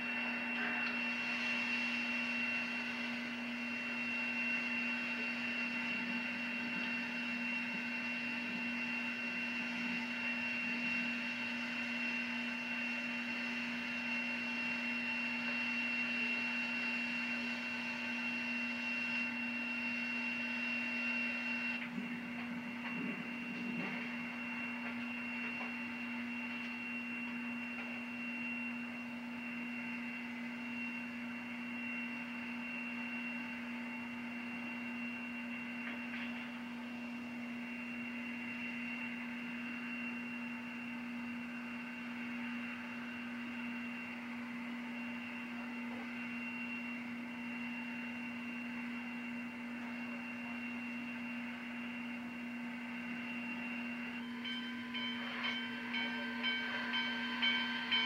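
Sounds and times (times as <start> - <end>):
electrical hum: 0.0 - 58.0
high whine: 0.0 - 58.0.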